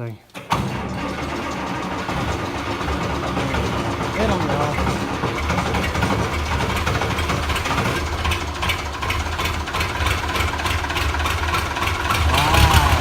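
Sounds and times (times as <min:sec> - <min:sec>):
diesel tractor engine running: 0:00.0 - 0:13.0
engine clatter: 0:00.3 - 0:13.0.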